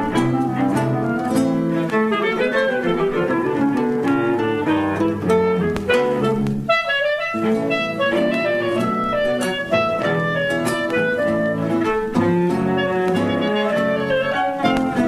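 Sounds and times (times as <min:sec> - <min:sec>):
instrumental tango music: 0:00.0 - 0:15.0.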